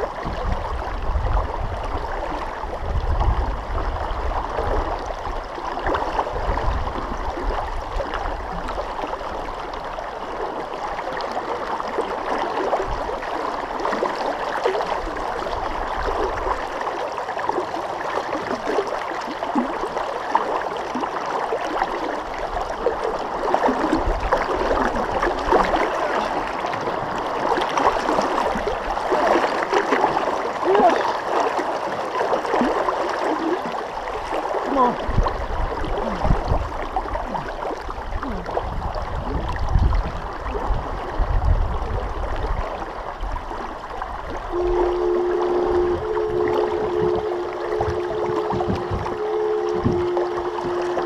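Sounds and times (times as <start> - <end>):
river current rushing and gurgling: 0.0 - 51.0.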